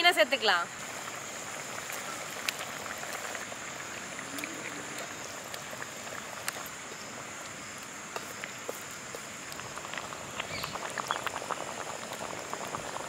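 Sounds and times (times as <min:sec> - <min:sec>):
pot bubbling and hissing: 0:00.0 - 0:13.0
wood fire pops and crackles: 0:00.8 - 0:13.0.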